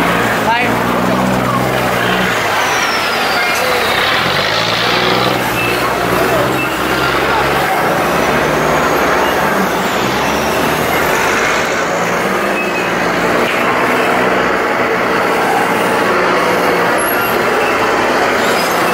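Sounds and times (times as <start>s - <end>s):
boat engine humming: 0.0s - 18.9s.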